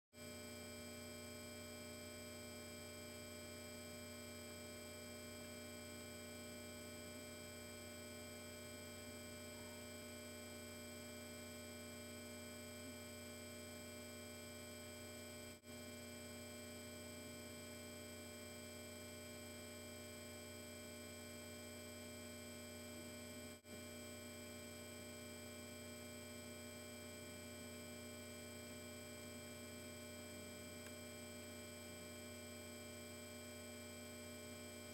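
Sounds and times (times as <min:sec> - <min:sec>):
faint electrical hum and buzz: 0:00.2 - 0:34.9.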